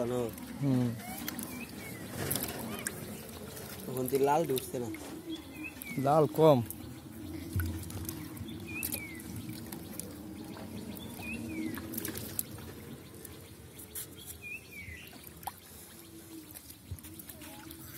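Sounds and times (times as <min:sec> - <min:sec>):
small splashes: 0:00.0 - 0:17.9
water trickling and dripping: 0:00.0 - 0:17.9.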